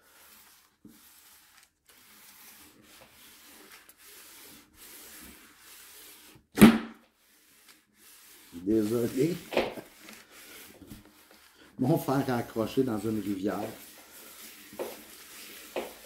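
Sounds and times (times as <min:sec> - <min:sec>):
iron scraping on crease: 0:00.0 - 0:06.4, 0:07.1 - 0:16.0
iron swishing over paper: 0:00.0 - 0:16.0.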